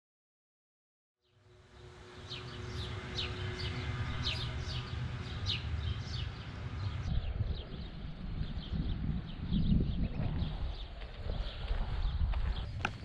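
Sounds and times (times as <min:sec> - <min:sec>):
birds chirping: 0:01.3 - 0:13.0
steady low rumble: 0:01.5 - 0:13.0.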